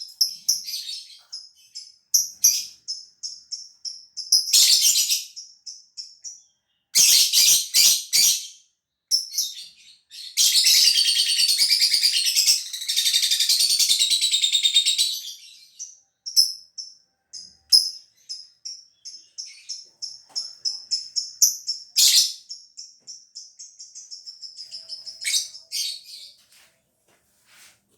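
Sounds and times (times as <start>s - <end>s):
lovebird chirping: 0.0s - 8.5s, 9.1s - 26.4s.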